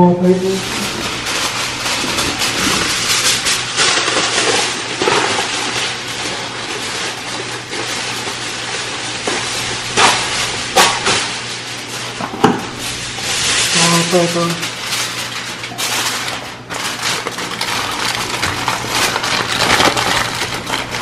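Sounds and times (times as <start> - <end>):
aluminium foil crinkling: 0.0 - 21.0.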